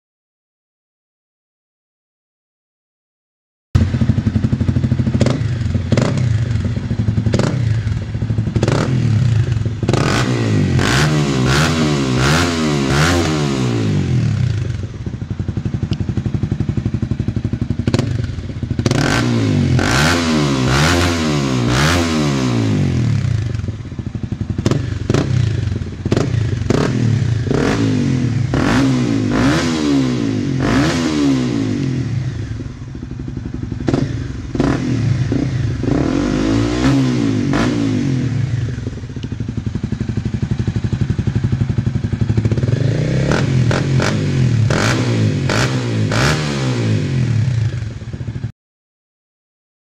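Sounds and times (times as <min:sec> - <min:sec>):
motorcycle engine idling and revving: 0:03.8 - 0:48.5.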